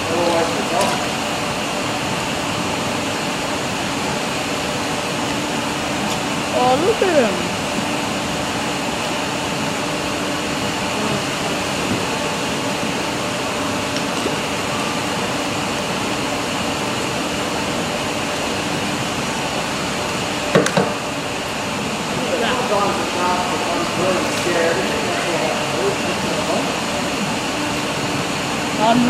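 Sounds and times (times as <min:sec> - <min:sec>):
mechanical whirring hum: 0:00.0 - 0:29.0.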